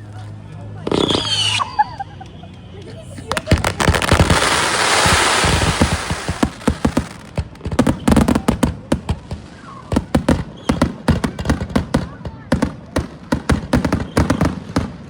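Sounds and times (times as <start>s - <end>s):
dense hiss of fireworks: 0.0s - 15.0s
fireworks bangs and booms: 0.8s - 1.6s, 3.3s - 15.0s.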